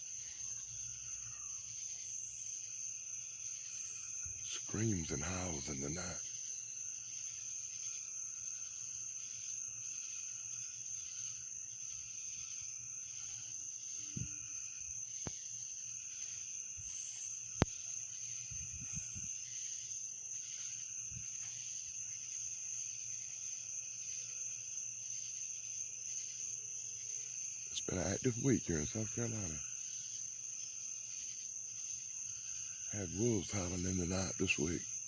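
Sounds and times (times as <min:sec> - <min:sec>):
crickets trilling: 0:00.0 - 0:35.0
insects calling in slow pulse: 0:00.0 - 0:35.0.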